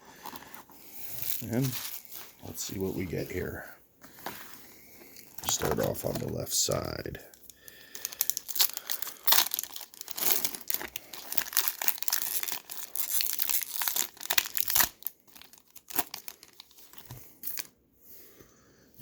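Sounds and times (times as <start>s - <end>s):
card pack wrapper crinkling and tearing: 0.2s - 3.6s, 5.2s - 17.7s.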